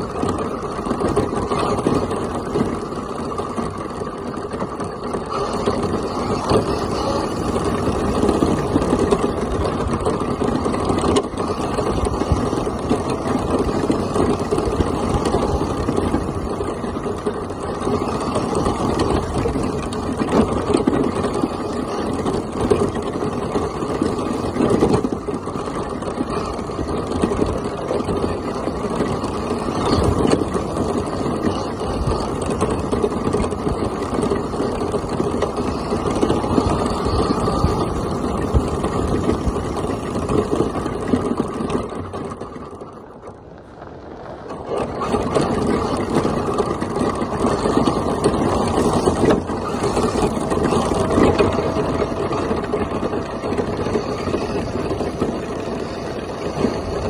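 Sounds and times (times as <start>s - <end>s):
electric toy truck motor: 0.0s - 57.0s.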